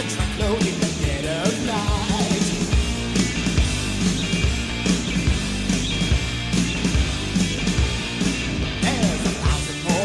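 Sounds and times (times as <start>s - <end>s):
bass guitar: 0.0s - 10.0s
drums keeping a steady beat: 0.0s - 10.0s
electric guitar: 0.0s - 10.0s.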